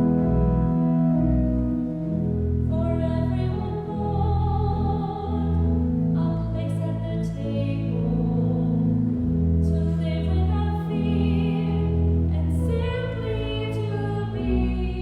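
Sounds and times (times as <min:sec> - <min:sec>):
long held accompanying chords: 0:00.0 - 0:15.0.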